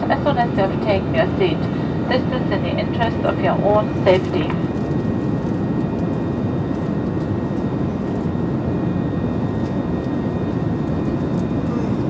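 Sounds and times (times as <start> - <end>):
jet engines and airflow rushing: 0.0 - 11.7.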